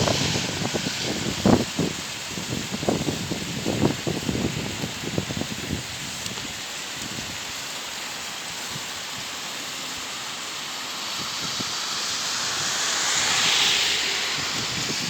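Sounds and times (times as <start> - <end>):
mountain torrent rushing: 0.0 - 15.0
wind: 0.0 - 15.0.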